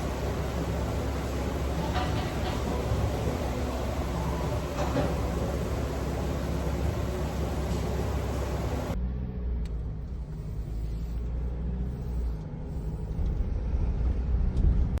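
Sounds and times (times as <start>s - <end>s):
engine idling: 0.0s - 14.8s.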